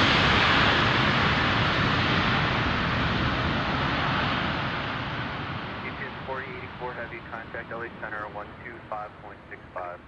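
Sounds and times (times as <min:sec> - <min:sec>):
jet engines passing: 0:00.0 - 0:10.0.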